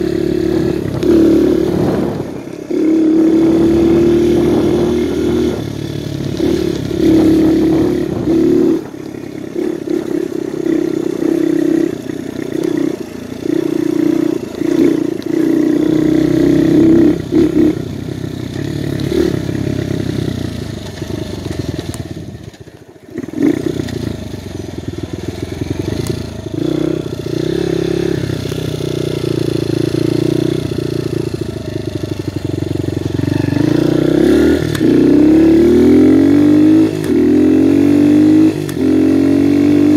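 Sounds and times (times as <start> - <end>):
dirt bike engine revving: 0.0 - 22.4, 23.1 - 39.9.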